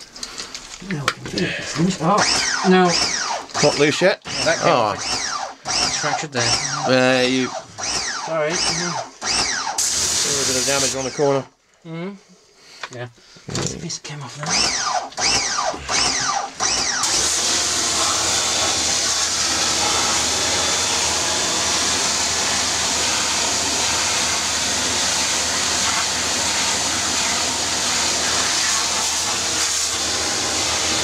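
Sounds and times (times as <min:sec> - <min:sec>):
pressure washer spraying rock: 0:02.2 - 0:11.1, 0:14.5 - 0:31.0.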